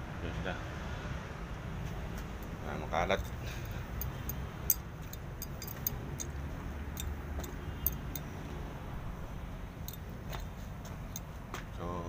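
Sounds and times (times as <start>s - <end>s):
air-conditioning machinery rumble: 1.6s - 12.0s.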